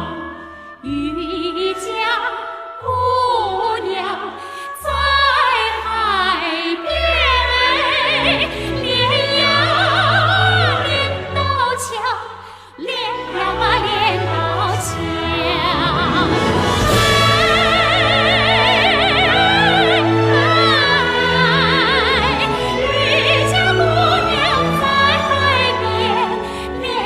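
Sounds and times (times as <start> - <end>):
orchestral accompaniment: 0.0 - 12.1, 12.8 - 27.0
person singing opera: 0.0 - 27.0.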